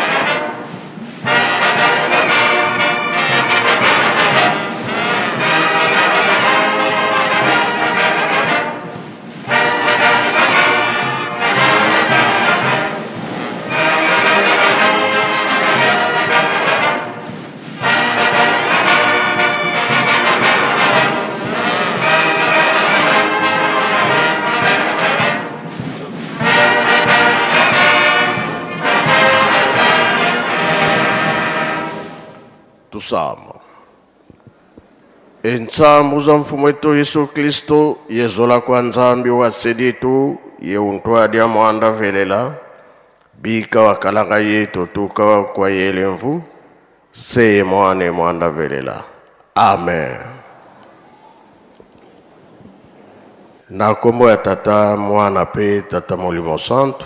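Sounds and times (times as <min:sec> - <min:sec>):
brass band playing a hymn: 0:00.0 - 0:57.0.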